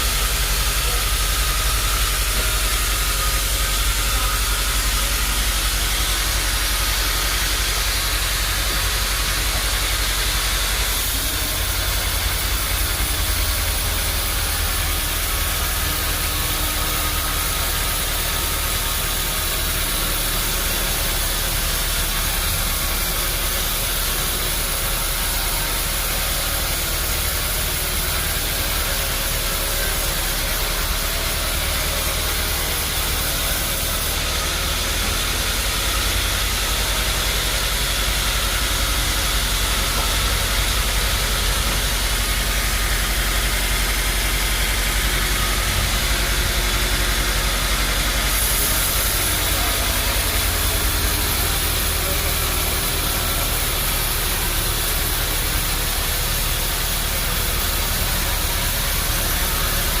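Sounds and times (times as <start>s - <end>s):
low motor hum: 0.0s - 60.0s.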